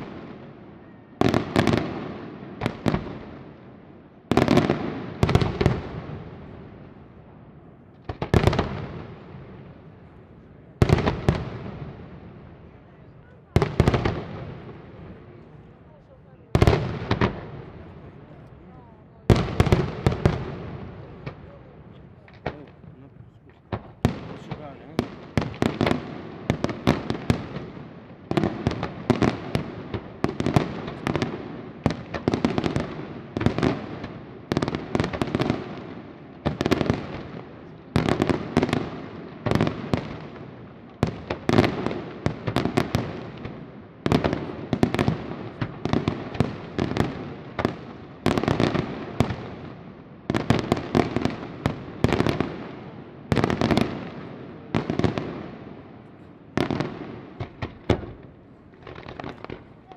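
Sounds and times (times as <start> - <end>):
fireworks bursting with bangs: 0.0 - 59.9.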